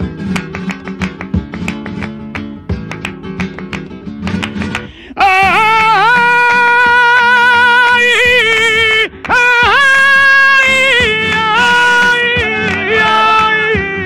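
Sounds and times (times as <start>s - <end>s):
flamenco acoustic guitar: 0.0s - 14.0s.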